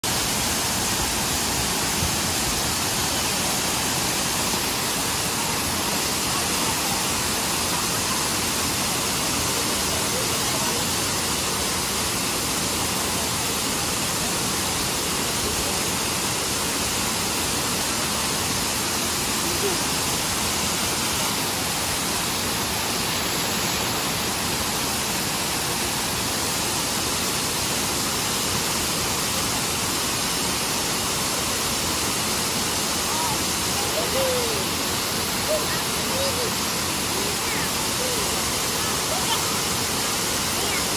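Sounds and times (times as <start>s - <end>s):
waterfall rushing into pool: 0.0s - 40.9s.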